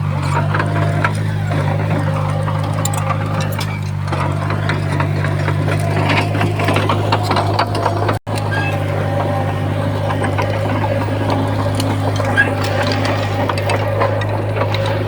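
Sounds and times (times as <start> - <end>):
bulldozer diesel engine running: 0.0 - 15.0
steel tracks rattling and clanking: 0.0 - 15.0.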